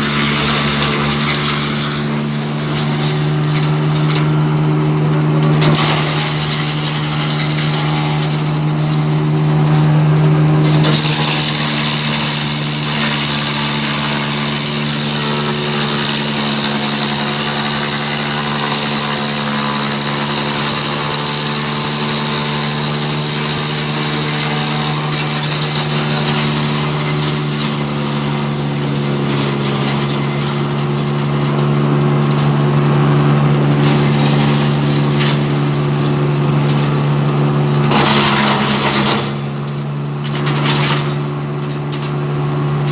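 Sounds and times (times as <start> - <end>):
wood chipper motor hum: 0.0 - 42.9
wood chipper shredding wood: 0.0 - 42.9.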